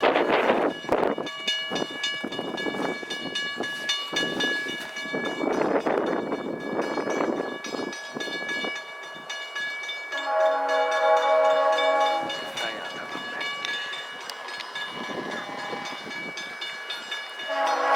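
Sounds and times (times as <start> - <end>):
train rumble with sharp clicks: 0.0 - 17.9.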